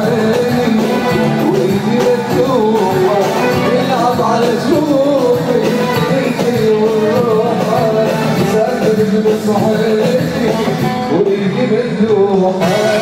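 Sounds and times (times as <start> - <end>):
electric guitar and band: 0.0 - 13.0
man singing: 0.0 - 13.0.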